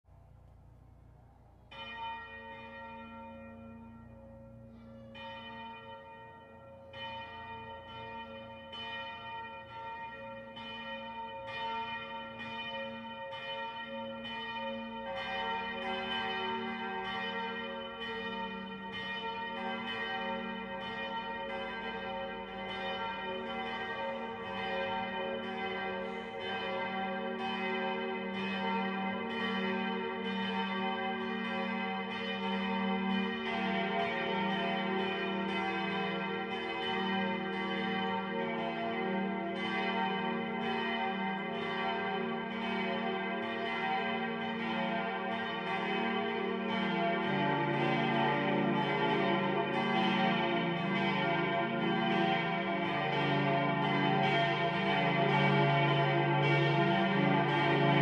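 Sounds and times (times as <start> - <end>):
church bells ringing: 1.6 - 58.0.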